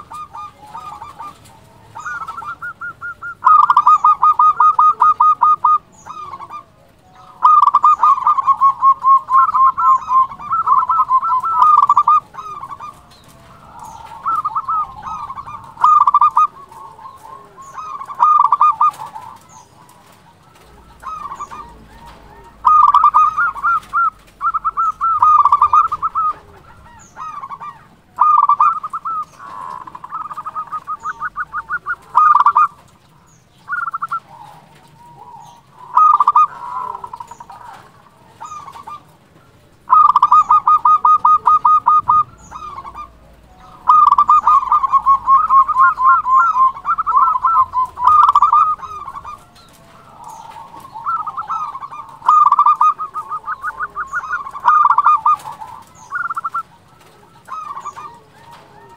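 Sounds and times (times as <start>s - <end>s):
dove cooing: 0.0s - 58.9s.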